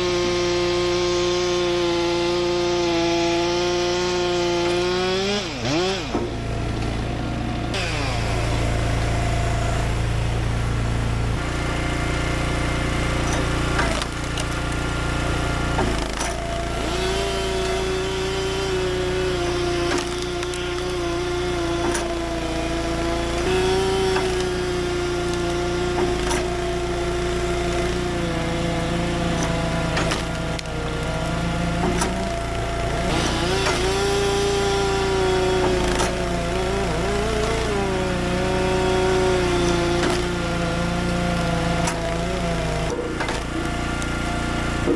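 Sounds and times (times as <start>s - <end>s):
chainsaw cutting logs: 0.0s - 44.9s
low engine drone: 4.6s - 44.9s.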